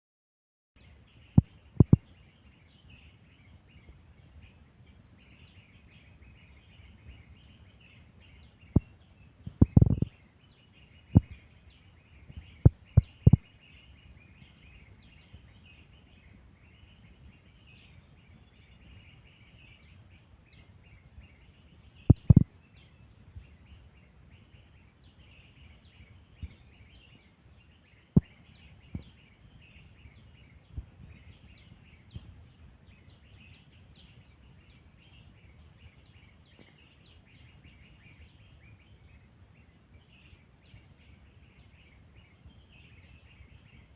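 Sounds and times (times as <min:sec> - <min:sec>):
small birds chirping: 0:00.8 - 0:43.9.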